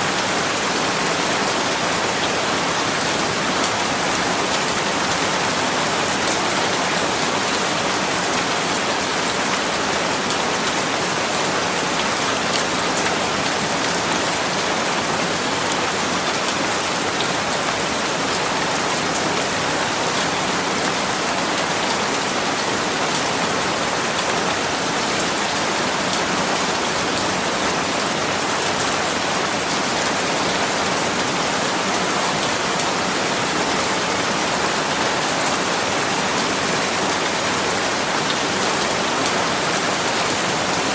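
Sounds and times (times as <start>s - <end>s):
rain pattering on surfaces: 0.1s - 40.9s.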